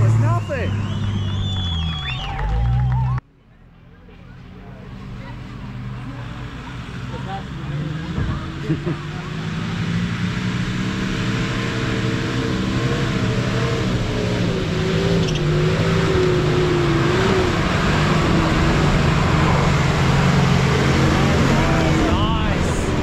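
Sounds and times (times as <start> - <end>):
vehicle engine climbing hill: 0.0 - 23.0.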